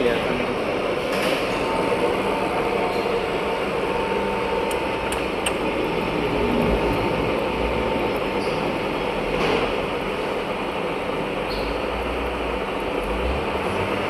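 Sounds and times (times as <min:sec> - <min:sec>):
lathe running with whine: 0:00.0 - 0:14.0.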